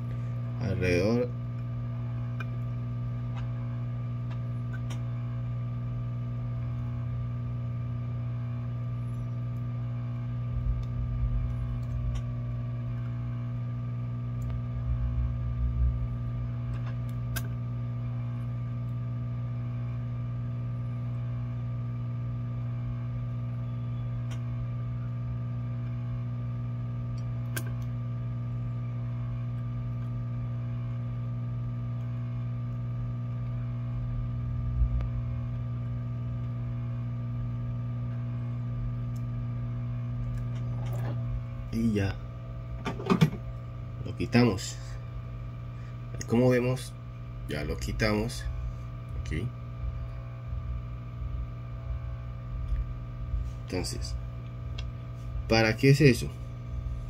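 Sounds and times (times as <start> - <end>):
hot-air blower humming: 0.0 - 57.0.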